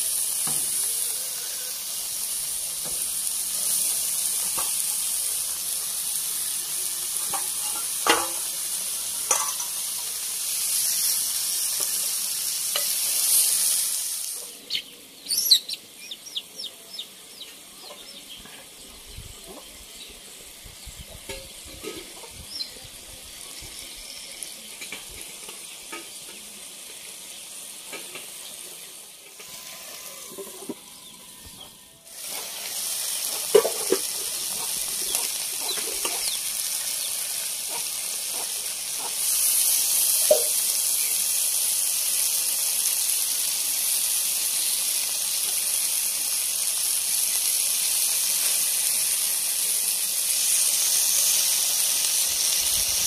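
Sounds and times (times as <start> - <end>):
chicken sizzling in oil: 0.0 - 53.0.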